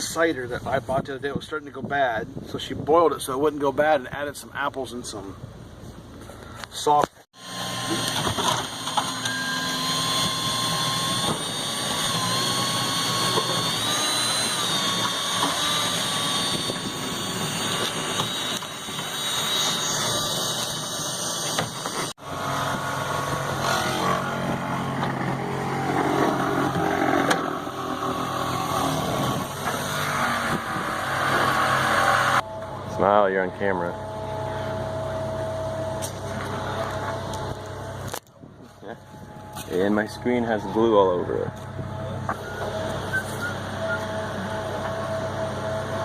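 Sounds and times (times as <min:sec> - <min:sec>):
motor whining: 0:07.4 - 0:38.3, 0:39.0 - 0:46.0
rough machine hum: 0:07.4 - 0:46.0.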